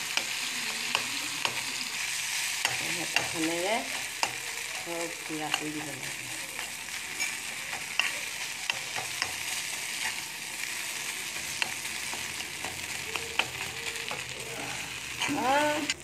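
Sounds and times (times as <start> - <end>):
fish and onion sizzling in pan: 0.0 - 16.0
steel spoon scraping pan: 0.1 - 16.0.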